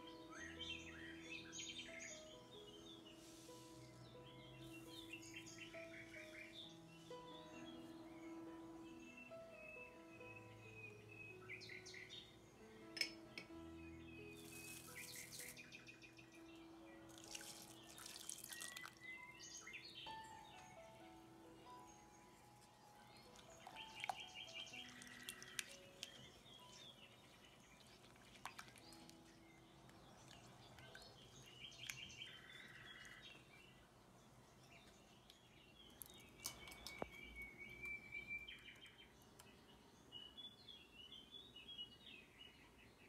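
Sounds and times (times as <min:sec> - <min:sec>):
soft background music: 0:00.0 - 0:43.0.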